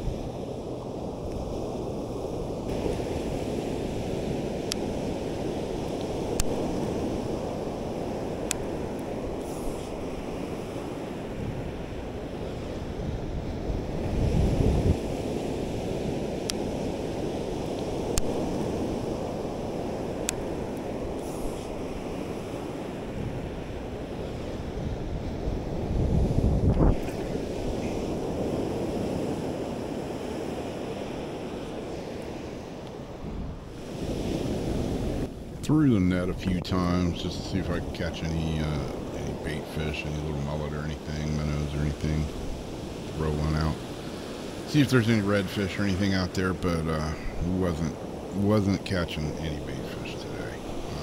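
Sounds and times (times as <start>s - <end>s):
ocean surf breaking: 0.0s - 51.0s
wind buffeting microphone: 0.0s - 51.0s.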